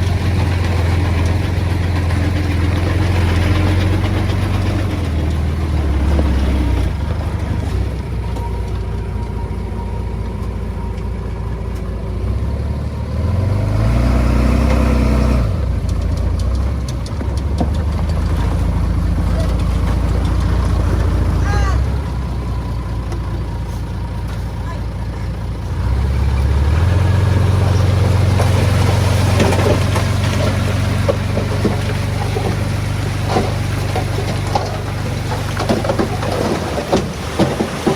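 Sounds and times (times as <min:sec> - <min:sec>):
heavy diesel engine droning: 0:00.0 - 0:37.9.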